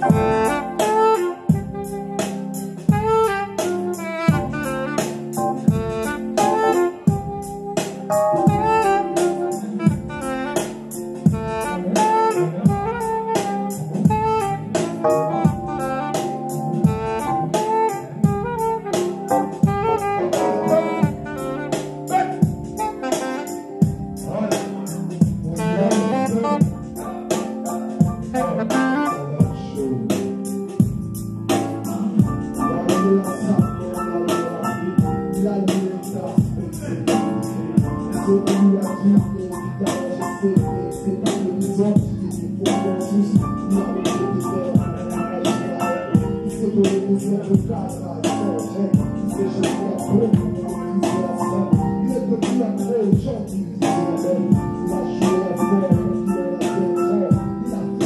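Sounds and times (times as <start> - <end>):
keyboard: 0.0 - 58.0
saxophone melody: 0.0 - 58.0
steady beat: 0.0 - 58.0.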